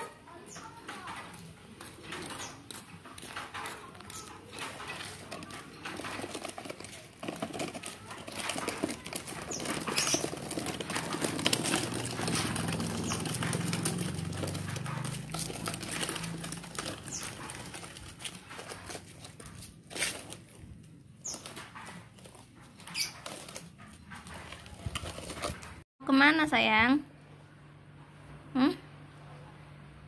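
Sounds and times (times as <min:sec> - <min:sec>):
plastic wheels rolling on asphalt: 0:00.0 - 0:25.9.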